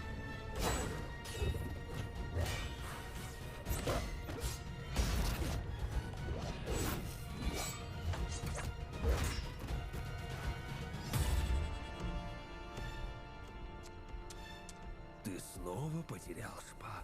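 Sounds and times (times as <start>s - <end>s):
dramatic film score: 0.0s - 17.0s.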